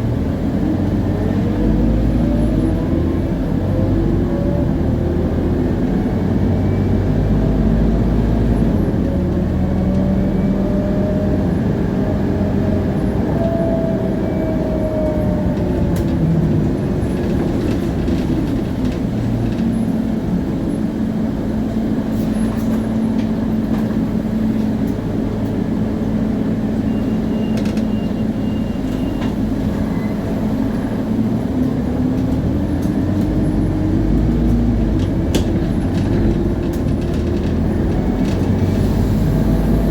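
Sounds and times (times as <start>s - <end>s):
bus axle whine: 0.0s - 39.9s
bus engine running: 0.0s - 39.9s.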